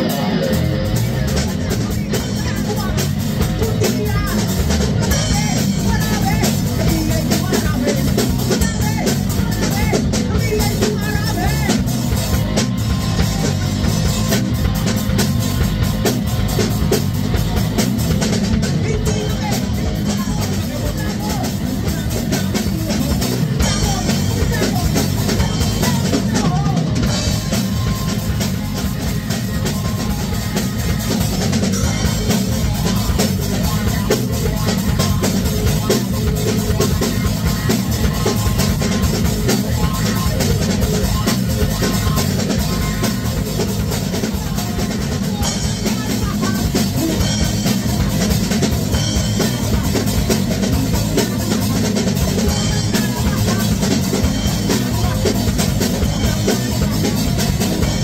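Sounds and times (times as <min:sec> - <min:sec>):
drum kit beat: 0:00.0 - 0:58.0
rock band playing: 0:00.0 - 0:58.0.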